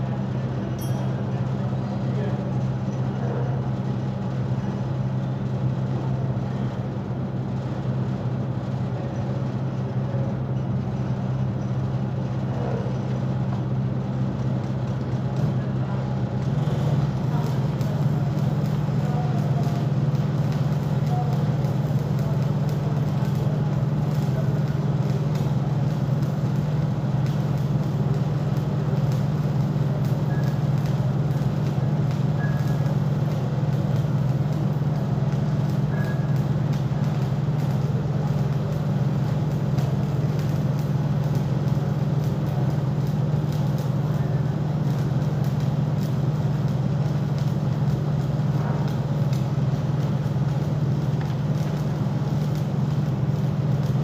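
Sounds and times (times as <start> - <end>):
machine running with low drone: 0.0 - 54.0.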